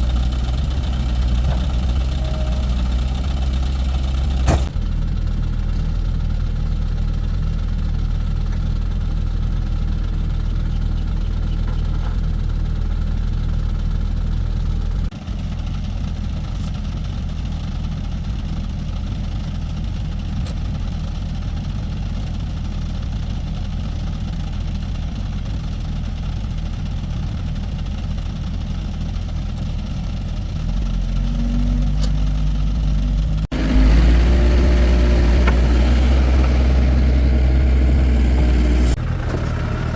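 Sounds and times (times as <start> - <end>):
engine running low: 0.0 - 39.9.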